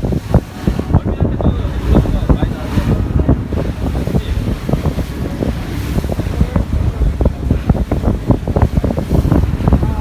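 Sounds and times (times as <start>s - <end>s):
boat engine rumble: 0.0s - 10.0s
hull thumping on waves: 0.0s - 10.0s
wind buffeting microphone: 0.0s - 10.0s.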